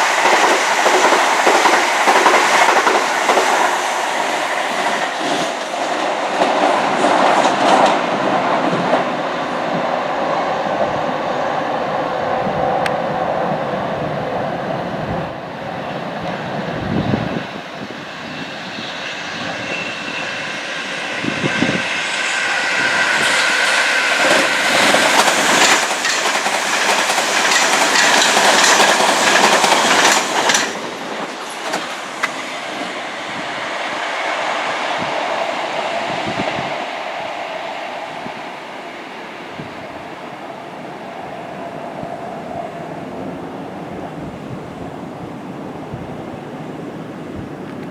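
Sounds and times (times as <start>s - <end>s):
high whine of train: 0.0s - 47.9s
train passing: 0.0s - 47.9s.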